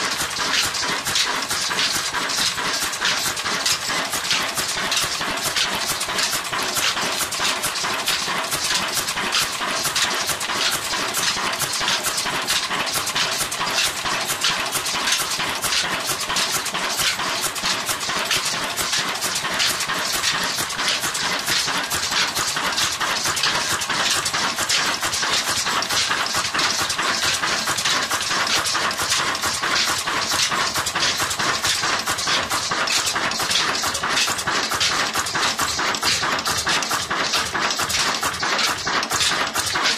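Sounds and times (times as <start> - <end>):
stationary diesel engine running: 0.0 - 39.9.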